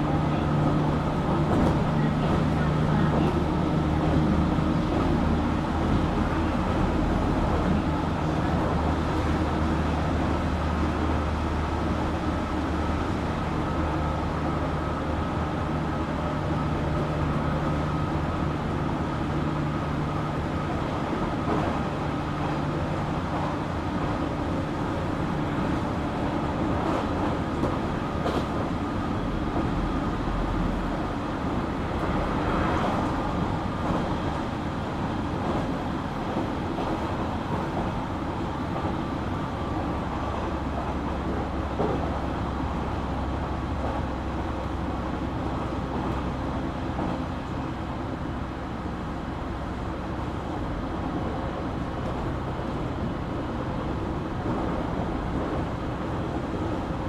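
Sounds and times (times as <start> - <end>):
train drive hum: 0.0 - 57.0
train wheels rumbling on rail: 0.0 - 57.0.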